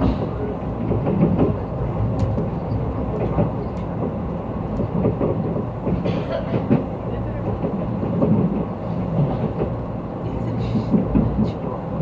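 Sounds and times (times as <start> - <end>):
wheels clicking over rails: 0.0 - 11.8
train rumble inside coach: 0.0 - 12.0.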